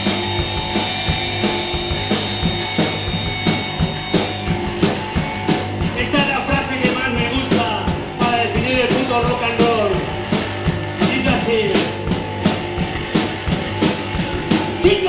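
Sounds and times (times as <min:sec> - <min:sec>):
distorted guitar and bass: 0:00.0 - 0:15.0
drum kit: 0:00.0 - 0:15.0.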